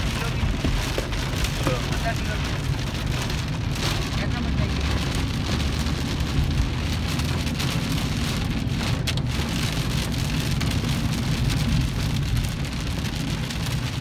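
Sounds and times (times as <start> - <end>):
heavy rain drumming on car roof: 0.0 - 14.0
low road and engine rumble: 0.0 - 14.0.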